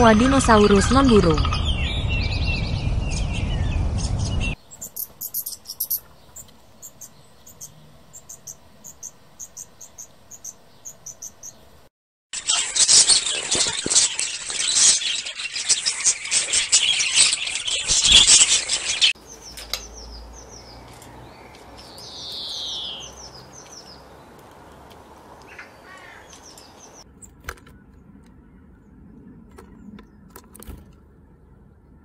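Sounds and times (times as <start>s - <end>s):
birds chattering: 0.0s - 11.8s, 13.1s - 27.0s
bird chirps and falling call: 0.4s - 11.7s, 12.5s - 28.0s.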